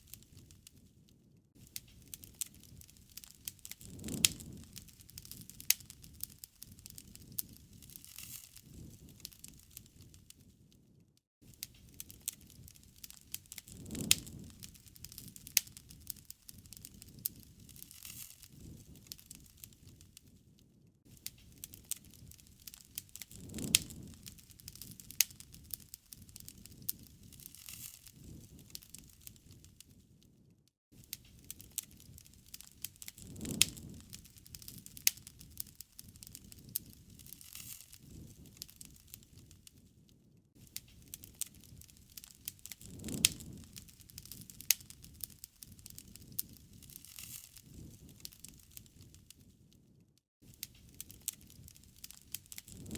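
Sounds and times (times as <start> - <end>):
low rush of flame: 0.0 - 52.9
wood fire crackling and popping: 0.0 - 52.9.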